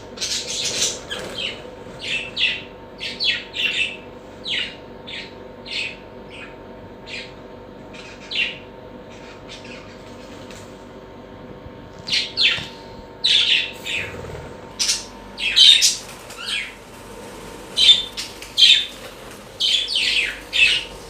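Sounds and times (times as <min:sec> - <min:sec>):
birds giving harsh calls: 0:00.0 - 0:10.4, 0:12.0 - 0:21.0.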